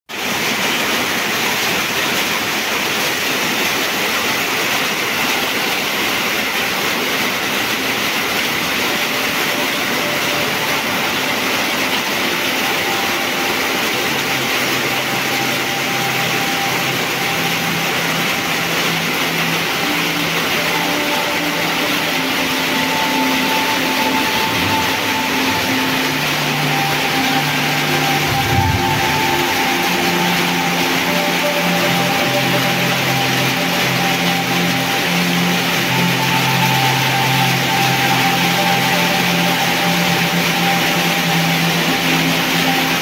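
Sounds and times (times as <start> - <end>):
heavy rain on metal roof: 0.1 - 43.0.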